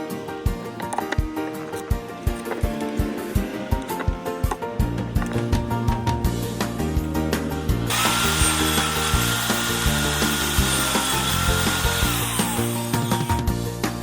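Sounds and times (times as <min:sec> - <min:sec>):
power tool whining: 0:00.0 - 0:13.8.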